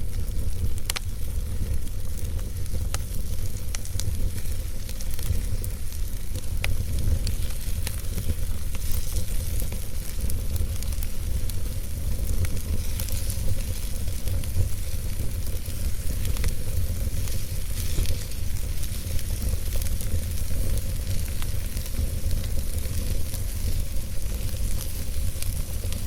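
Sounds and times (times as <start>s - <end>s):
burning wood crackling and popping: 0.0s - 26.0s
fire rumbling and hissing: 0.0s - 26.0s.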